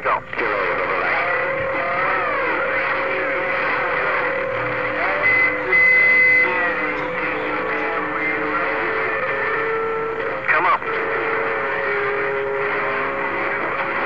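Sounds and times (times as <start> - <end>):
garbled radio voices: 0.0 - 14.0
radio static: 0.0 - 14.0
whistling heterodyne tones: 1.3 - 13.8
loud steady high whistle: 1.3 - 14.0.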